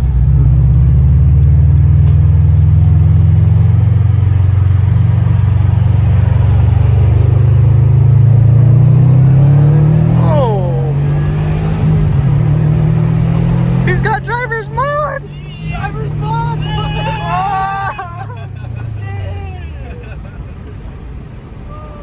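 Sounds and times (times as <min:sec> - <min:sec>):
car engine deep exhaust drone: 0:00.0 - 0:22.0.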